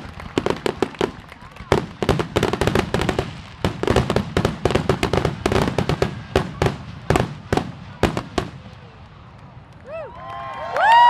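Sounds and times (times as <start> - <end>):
fireworks bangs and crackles: 0.0 - 9.8.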